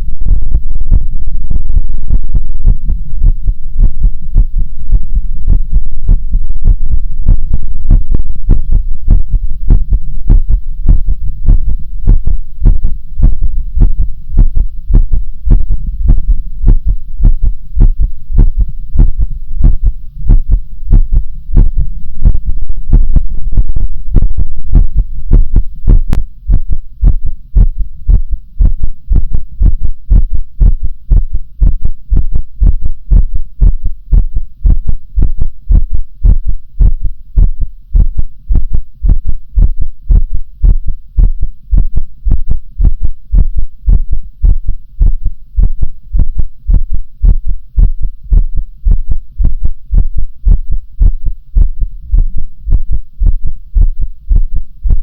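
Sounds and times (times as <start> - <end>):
heartbeat thuds: 0.0 - 55.0.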